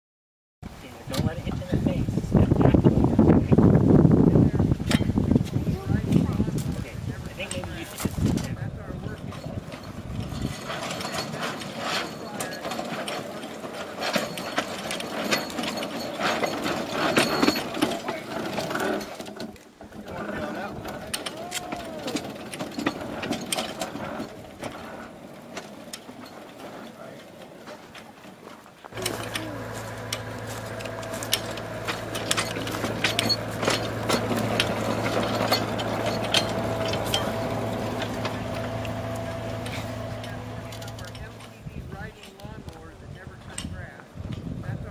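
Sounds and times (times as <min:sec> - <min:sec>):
handcar rumbling on rails: 0:00.7 - 0:44.9
wheels clacking on rails: 0:04.7 - 0:44.9.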